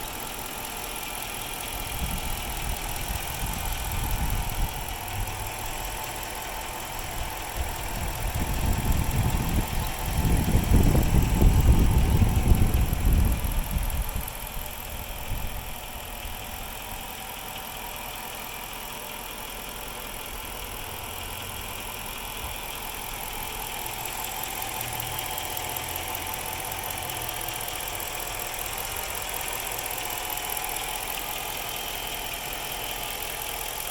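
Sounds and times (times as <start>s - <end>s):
car engine rough idling: 0.0s - 33.9s.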